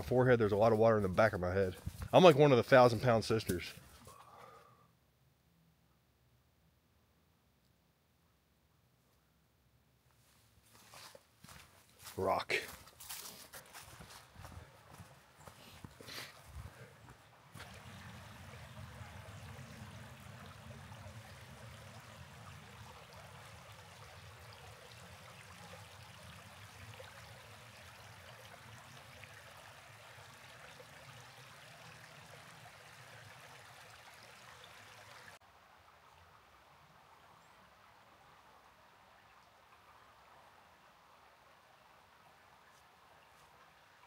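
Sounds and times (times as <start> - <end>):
faint flowing stream: 0.0 - 5.0, 10.2 - 44.0.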